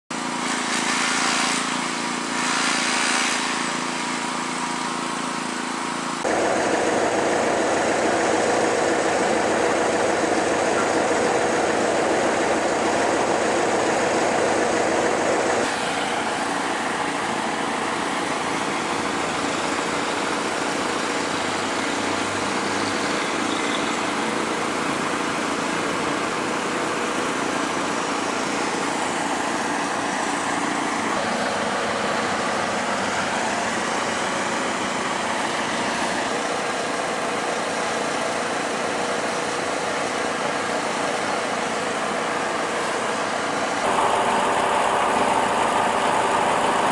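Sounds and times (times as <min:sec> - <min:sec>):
truck engine running steadily: 0:00.1 - 0:46.9.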